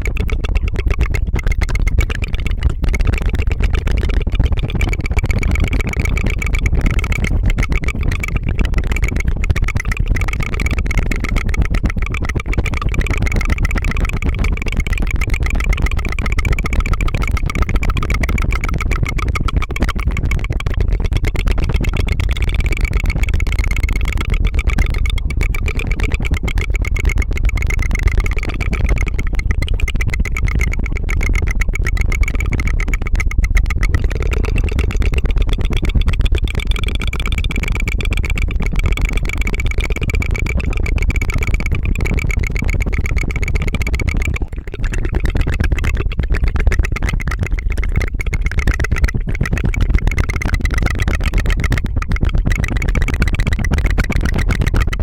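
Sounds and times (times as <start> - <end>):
person fluttering tongue: 0.0 - 55.0.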